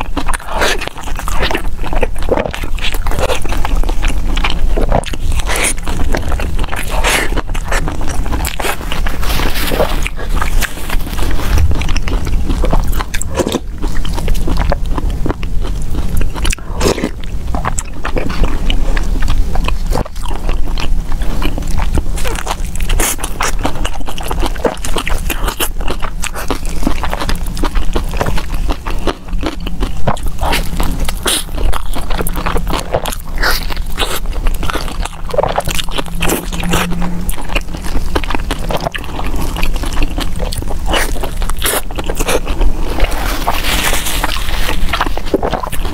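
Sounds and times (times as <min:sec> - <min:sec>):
person biting and wet chewing: 0:00.0 - 0:45.9
steady low rumble: 0:00.0 - 0:45.9.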